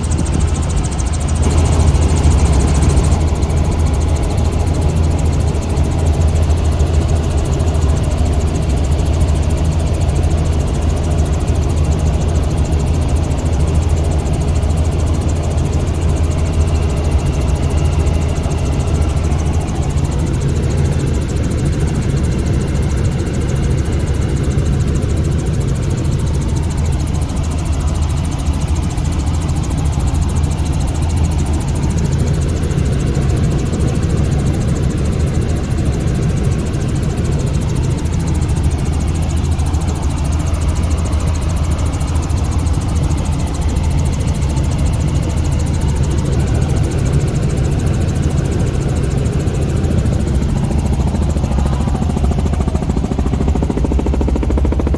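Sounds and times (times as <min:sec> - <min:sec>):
helicopter engine and rotor drone: 0:00.0 - 0:54.9.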